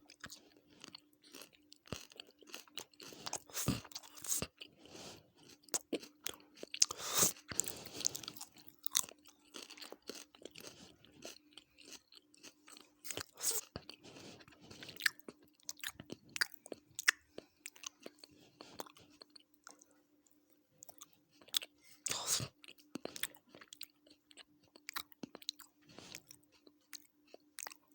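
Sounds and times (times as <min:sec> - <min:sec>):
faint steady hum: 0:00.0 - 0:27.9
person chewing and crunching food: 0:00.0 - 0:27.9.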